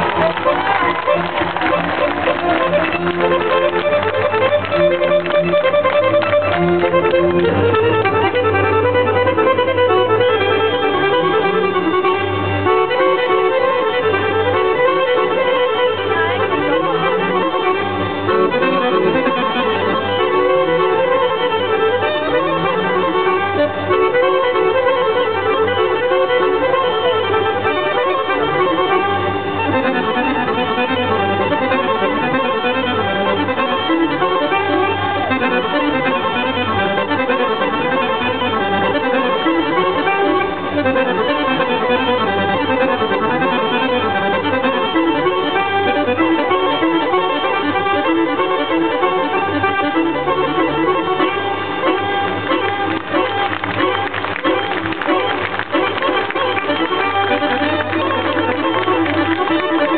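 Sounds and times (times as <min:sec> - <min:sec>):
accordion folk dance tune: 0:00.0 - 0:59.9.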